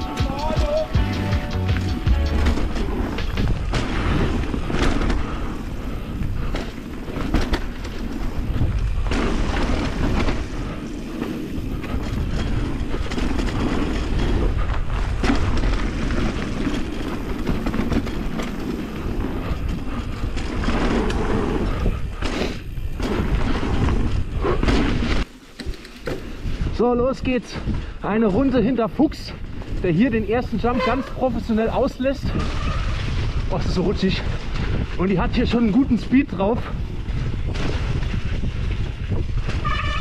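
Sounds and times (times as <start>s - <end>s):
wind and tyre rumble: 0.0s - 40.0s.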